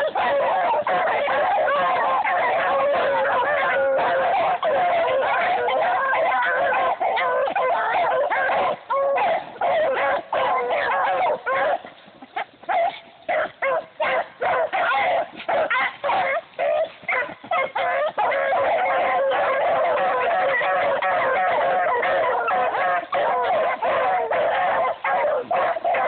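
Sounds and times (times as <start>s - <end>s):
dogs barking and yipping: 0.0s - 26.0s.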